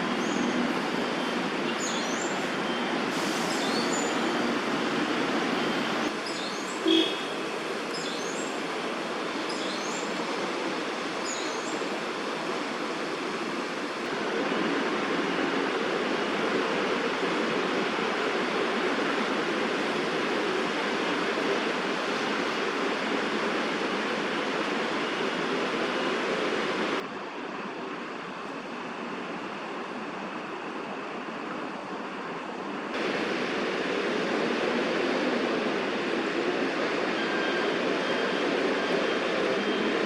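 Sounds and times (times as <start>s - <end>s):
city traffic hum: 0.0s - 40.0s.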